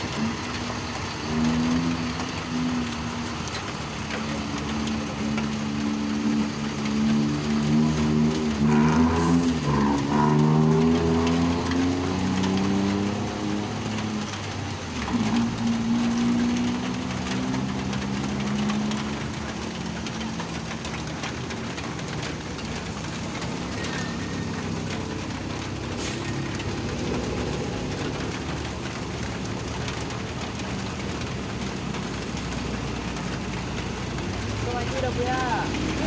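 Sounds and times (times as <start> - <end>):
heavy rain hissing: 0.0 - 36.0
vehicle engine labouring: 0.0 - 36.0.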